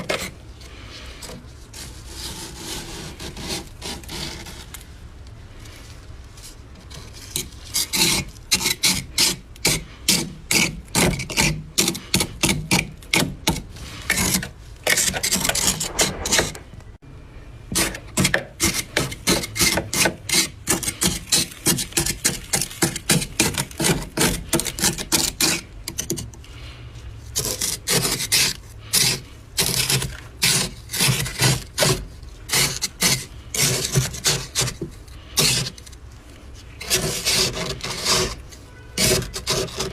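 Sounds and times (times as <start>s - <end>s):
freezer frost being scraped: 0.0s - 4.8s, 6.6s - 16.6s, 17.7s - 26.2s, 27.4s - 39.9s.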